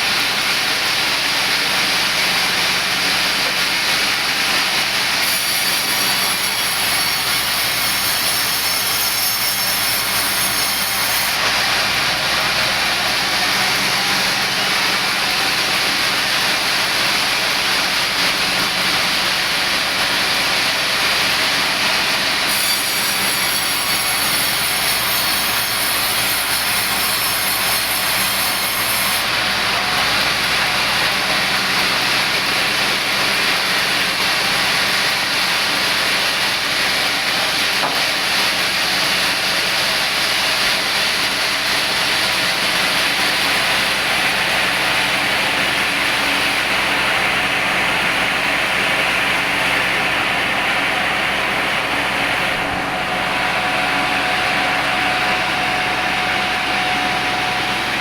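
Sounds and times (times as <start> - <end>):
power saw running: 0.0 - 58.0
saw blade whine cutting wood: 0.0 - 58.0.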